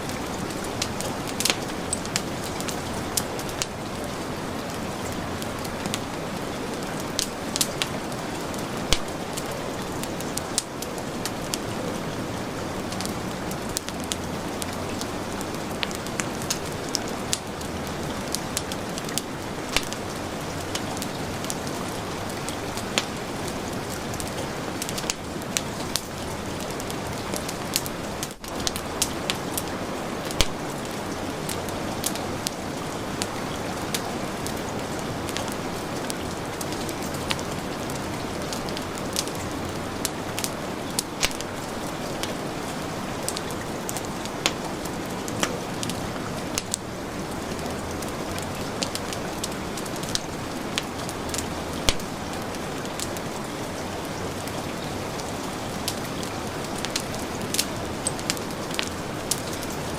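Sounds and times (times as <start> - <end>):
heavy rain falling: 0.0 - 59.9
wood fire crackling and popping: 0.0 - 59.9.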